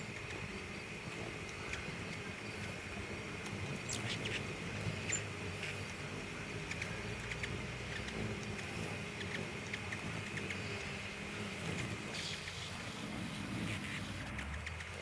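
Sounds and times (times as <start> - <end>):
hummingbird chip notes: 0.0 - 14.0
steady low hum: 0.0 - 15.0.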